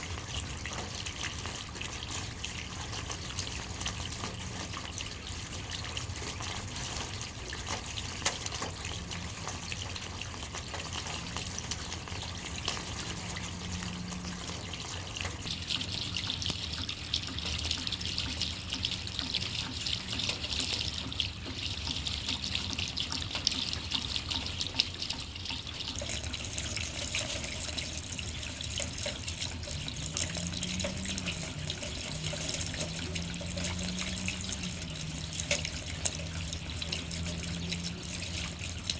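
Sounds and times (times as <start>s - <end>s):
rain dripping into puddles: 0.0s - 38.9s
running water: 0.0s - 38.9s.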